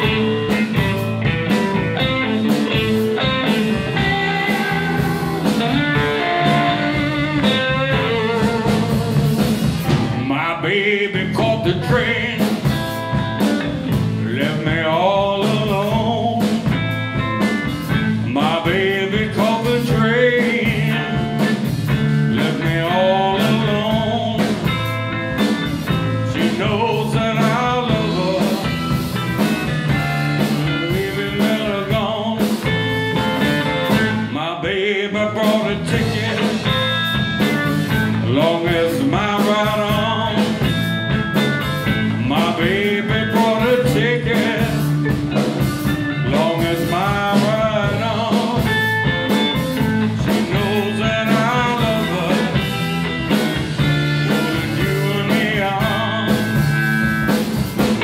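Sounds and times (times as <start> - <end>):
man singing: 0.0 - 1.0, 2.1 - 24.9, 25.6 - 57.1
bass guitar: 0.0 - 58.0
drums: 0.0 - 58.0
electric guitars: 0.0 - 58.0.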